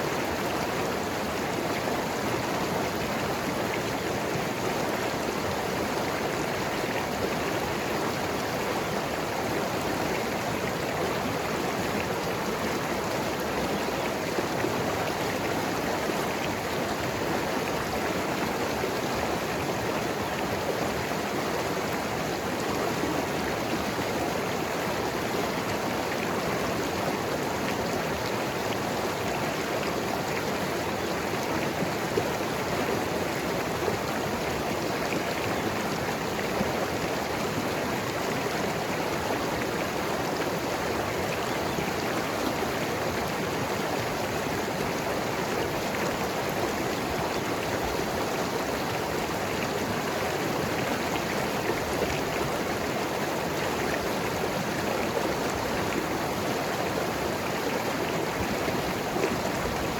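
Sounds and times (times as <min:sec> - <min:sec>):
mountain river rushing over rocks: 0:00.0 - 0:59.9.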